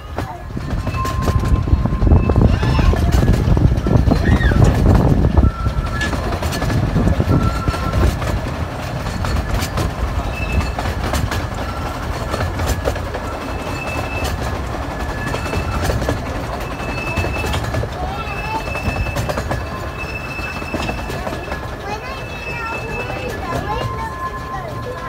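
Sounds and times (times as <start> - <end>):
train carriage rumble: 0.0 - 25.0
wheels clacking over rail joints: 0.0 - 25.0
wheels squealing on curve: 0.7 - 8.3, 9.0 - 25.0.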